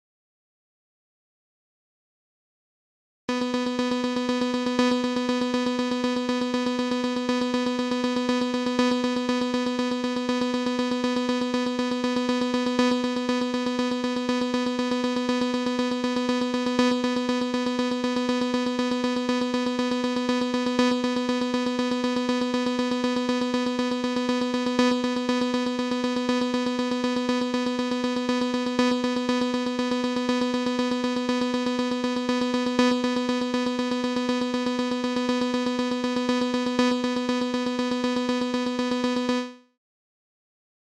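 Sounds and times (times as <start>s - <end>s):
synthesized fire alarm note: 3.3s - 39.5s.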